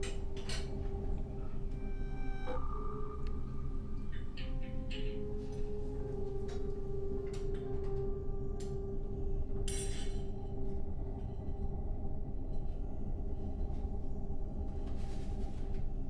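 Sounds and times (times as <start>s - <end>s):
sustained ringing tone: 0.7s - 14.3s.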